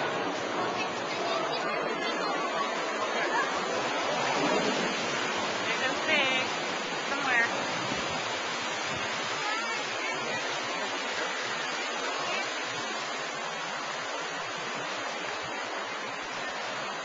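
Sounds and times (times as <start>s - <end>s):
faint voices: 0.0s - 7.7s, 8.9s - 17.0s
water rushing and churning: 0.0s - 17.0s.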